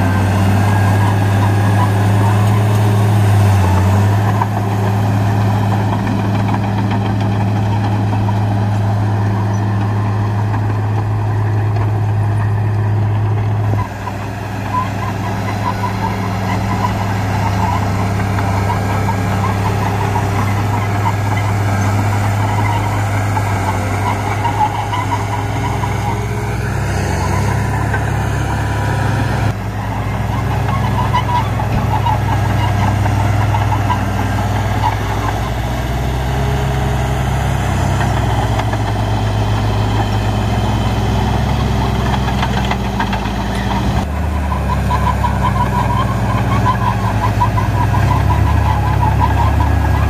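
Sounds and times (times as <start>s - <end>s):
bulldozer diesel engine running: 0.0s - 50.0s.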